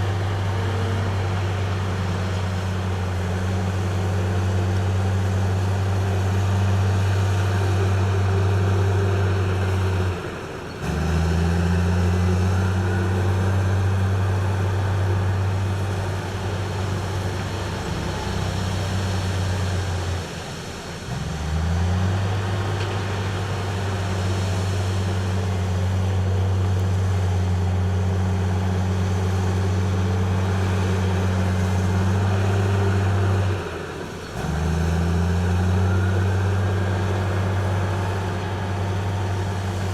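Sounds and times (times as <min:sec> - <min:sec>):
diesel machinery engine humming: 0:00.0 - 0:39.9.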